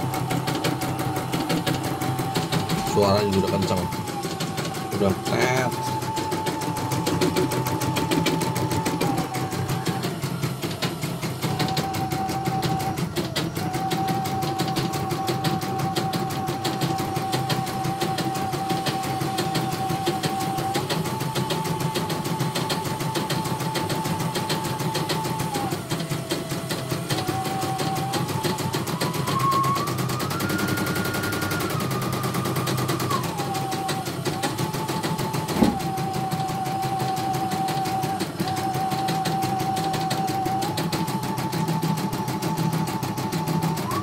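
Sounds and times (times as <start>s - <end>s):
motor whine: 0.0s - 44.0s.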